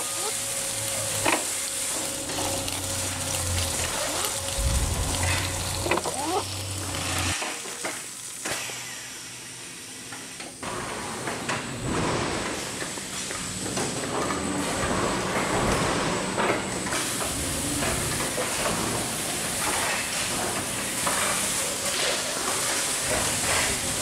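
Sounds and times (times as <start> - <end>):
wrapping machine hum and hiss: 0.0 - 24.0.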